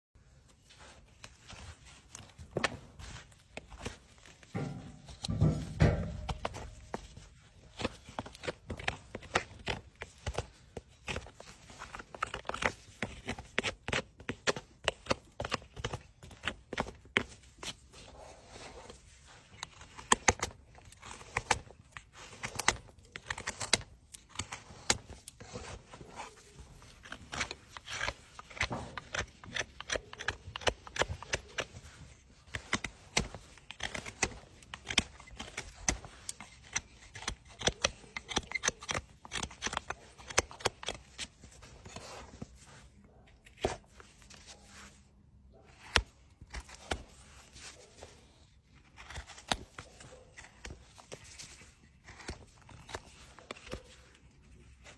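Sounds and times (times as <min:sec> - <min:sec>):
knife scraping hoof: 0:00.6 - 0:54.9.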